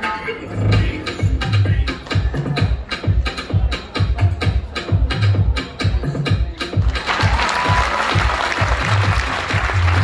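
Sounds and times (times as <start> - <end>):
heavy bass beat: 0.0 - 10.0
stage show music: 0.0 - 10.0.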